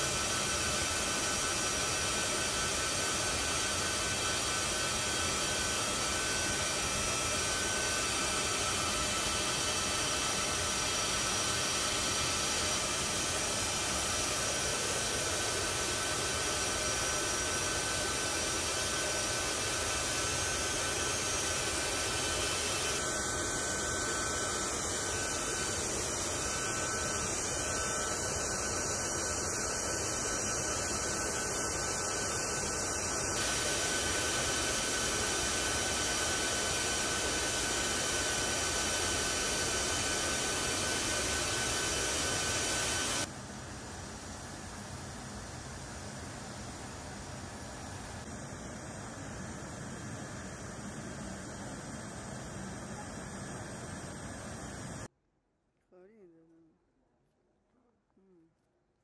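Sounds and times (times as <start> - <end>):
aircraft turbines roaring: 0.0 - 55.1
high turbine whine: 0.0 - 55.1.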